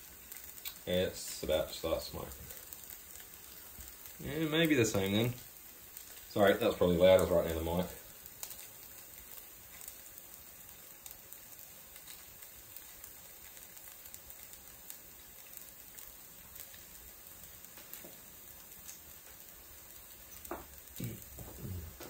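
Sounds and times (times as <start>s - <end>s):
cheese sizzling in a frying pan: 0.0s - 22.0s.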